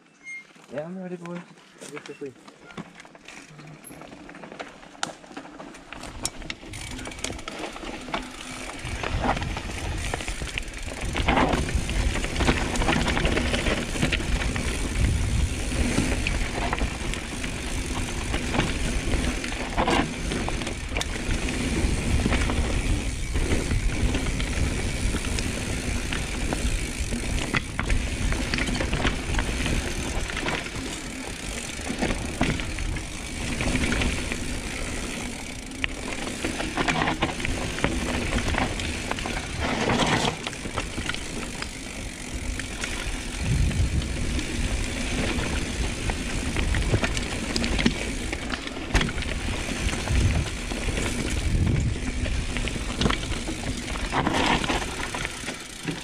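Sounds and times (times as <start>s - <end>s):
bike knocking and rattling: 1.2s - 56.0s
bike tyres rumbling over dirt: 2.8s - 56.0s.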